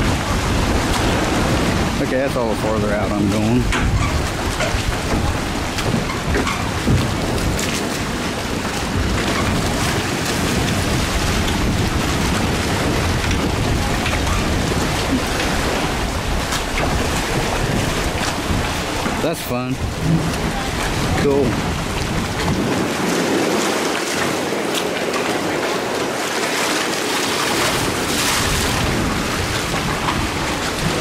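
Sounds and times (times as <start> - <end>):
choppy water: 0.0 - 31.0
wind on microphone: 0.0 - 31.0.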